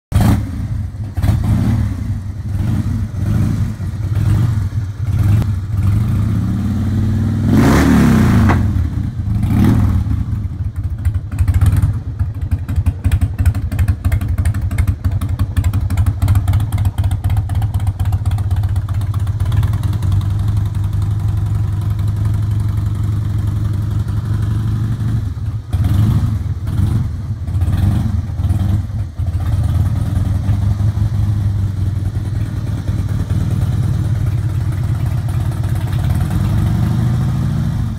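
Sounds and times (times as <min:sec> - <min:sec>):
motorcycle engine revving and idling: 0:00.1 - 0:37.9.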